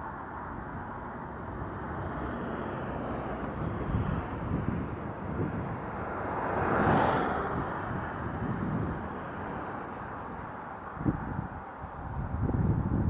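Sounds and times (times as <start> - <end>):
wind buffeting microphone: 0.0 - 13.0
vehicle passing: 1.0 - 12.7.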